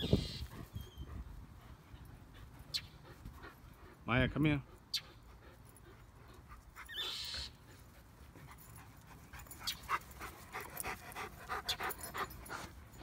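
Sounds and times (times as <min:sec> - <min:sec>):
dog panting quickly: 0:00.4 - 0:13.0.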